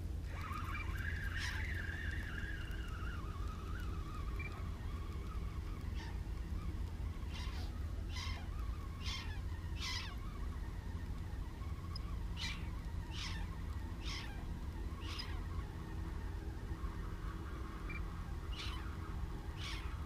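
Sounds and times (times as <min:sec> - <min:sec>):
steady low rumble: 0:00.0 - 0:20.0
bird calls falling in pitch: 0:00.3 - 0:20.0.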